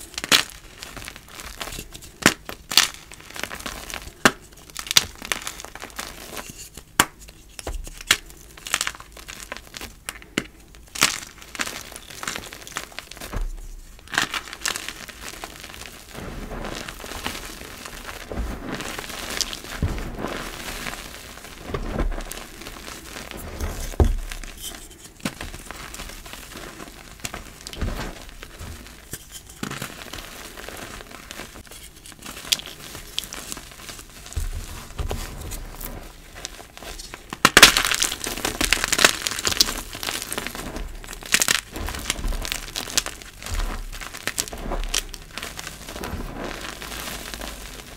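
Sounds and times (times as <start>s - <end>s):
hands crushing chalk blocks: 0.0s - 47.9s.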